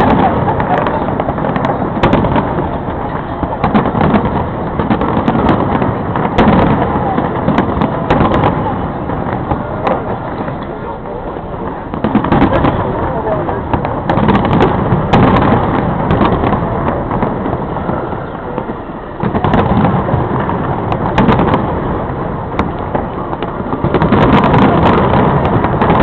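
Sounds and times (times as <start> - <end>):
fireworks booming and crackling: 0.0 - 26.0.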